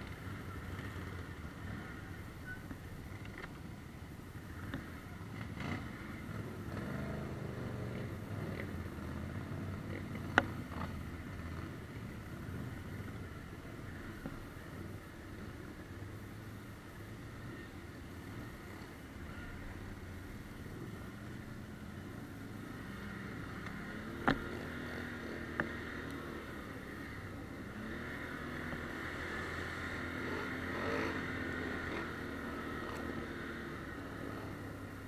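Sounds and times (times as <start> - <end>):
atv engine running: 0.0 - 35.0.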